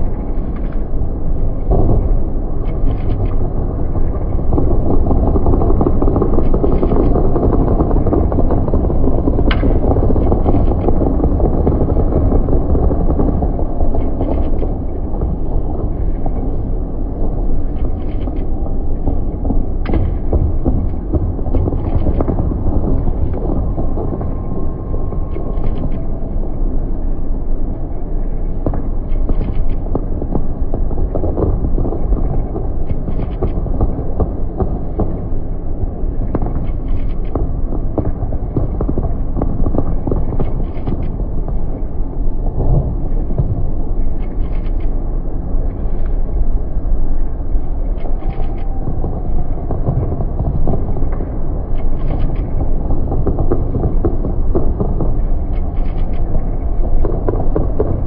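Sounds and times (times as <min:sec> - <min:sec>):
fireworks rumbling: 0:00.0 - 0:58.0.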